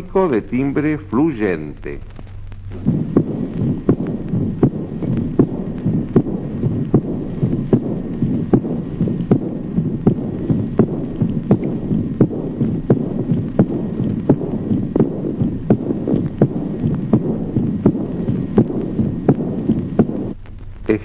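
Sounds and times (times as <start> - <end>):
flowing heart murmur: 0.0 - 21.0
heartbeat through stethoscope: 0.0 - 21.0.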